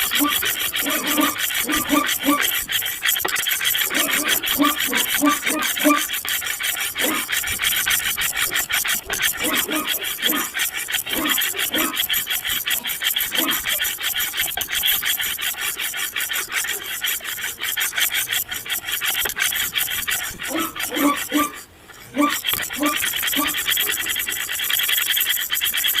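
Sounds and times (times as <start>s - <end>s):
rapid rasping scratching: 0.0s - 26.0s.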